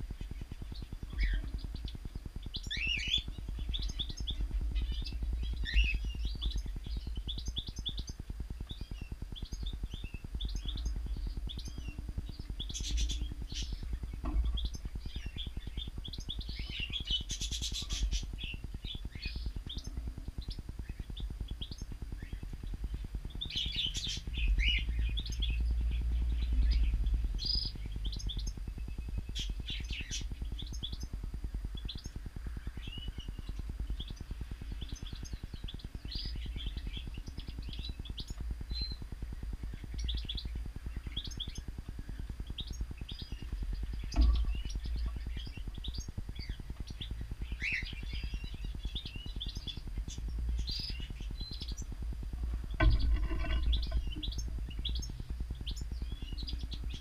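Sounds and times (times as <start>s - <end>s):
small birds chirping: 0.0s - 57.0s
steady low rumble: 0.0s - 57.0s.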